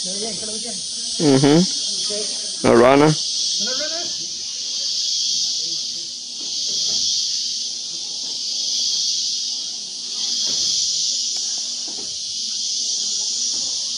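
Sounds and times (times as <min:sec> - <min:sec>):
rainforest insects chorus: 0:00.0 - 0:13.9.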